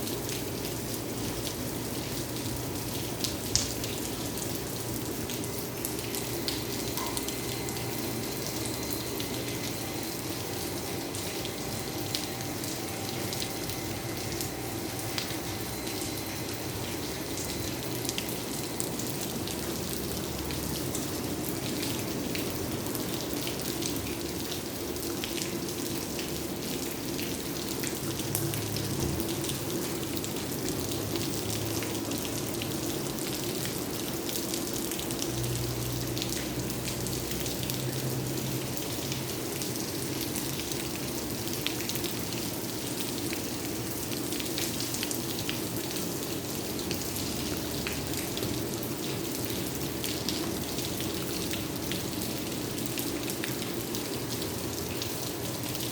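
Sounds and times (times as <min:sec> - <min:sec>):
rain falling: 0:00.0 - 0:55.9.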